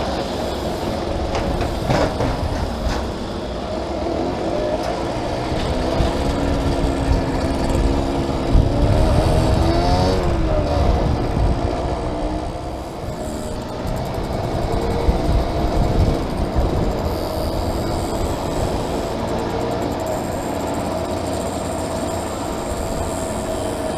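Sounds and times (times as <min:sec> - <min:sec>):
small motorcycle engine running: 0:00.0 - 0:23.9
wind rumbling on microphone: 0:00.0 - 0:23.9.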